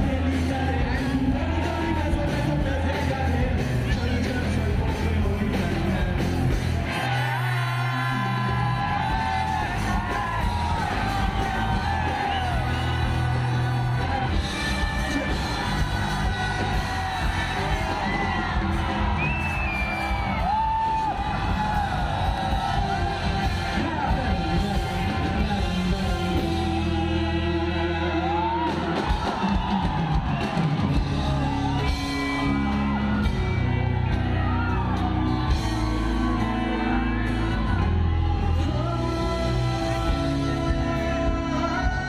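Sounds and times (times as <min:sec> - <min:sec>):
live band music: 0:00.0 - 0:42.0
person singing: 0:00.0 - 0:42.0
crowd shouting: 0:06.5 - 0:42.0.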